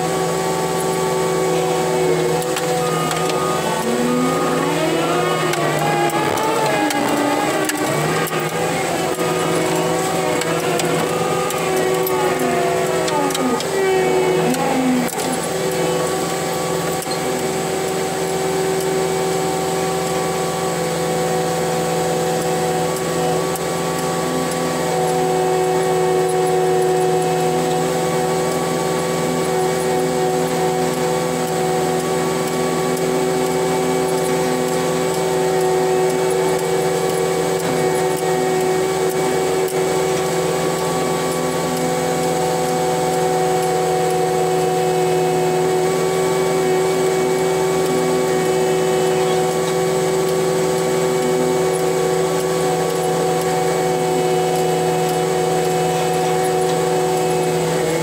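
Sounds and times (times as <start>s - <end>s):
diesel engine drone: 0.0s - 58.0s
hydraulic whine: 0.0s - 58.0s.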